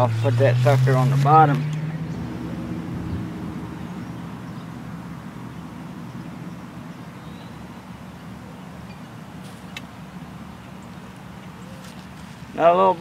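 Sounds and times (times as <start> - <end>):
distant vehicle engine droning: 0.0 - 13.0.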